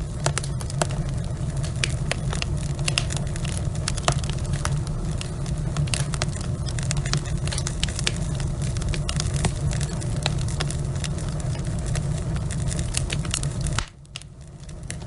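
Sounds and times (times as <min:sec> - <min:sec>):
log fire crackling: 0:00.0 - 0:15.0
low rumble of burning logs: 0:00.0 - 0:15.0.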